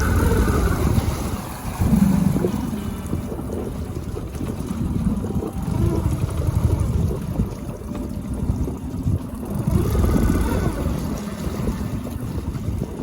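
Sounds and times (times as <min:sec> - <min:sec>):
outboard motor rumbling: 0:00.0 - 0:13.0
water noise: 0:00.0 - 0:13.0.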